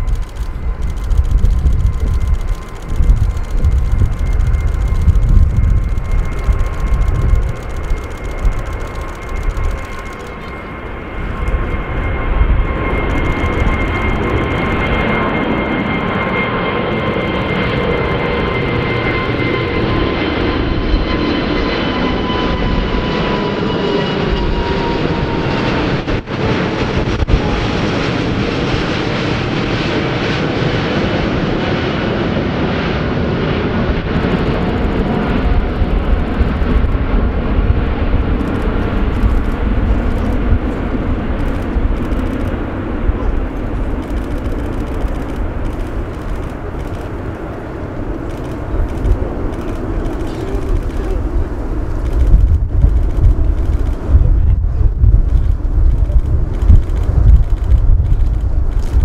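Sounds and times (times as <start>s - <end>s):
jet airliner roaring overhead: 0.0s - 59.0s
jet engine whine: 0.0s - 59.0s.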